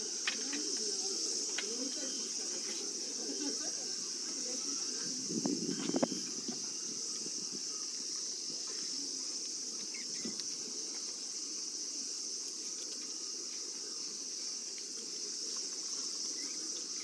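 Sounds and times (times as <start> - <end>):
insects shrilling: 0.0 - 17.0
low outdoor murmur: 0.0 - 17.0.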